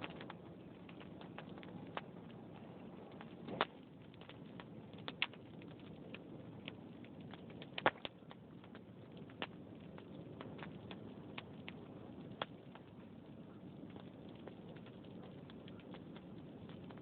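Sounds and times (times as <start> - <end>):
low rush of flames: 0.0 - 17.0
wood fire crackling: 0.0 - 17.0.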